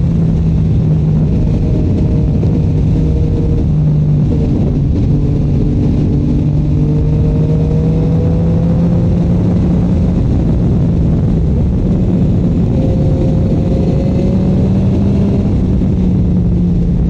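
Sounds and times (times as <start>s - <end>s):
motorcycle engine running: 0.0s - 17.0s
wind noise over microphone: 0.0s - 17.0s.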